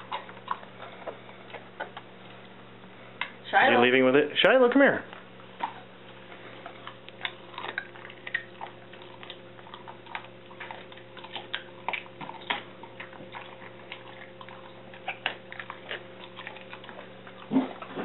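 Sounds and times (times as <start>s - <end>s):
teeth crunching on bone: 0.0s - 2.6s, 5.3s - 18.0s
faint steady hum: 0.0s - 18.0s.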